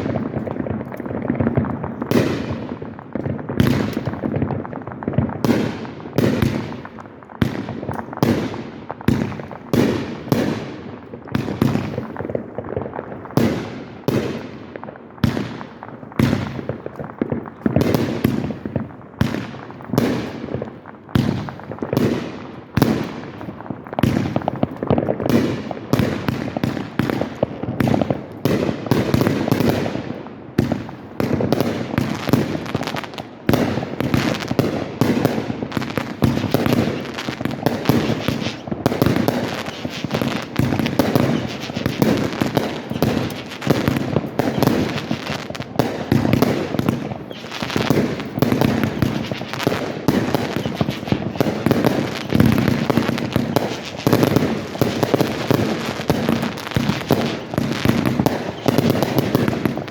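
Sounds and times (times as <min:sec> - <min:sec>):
firework booms and crackles: 0:00.0 - 0:59.9.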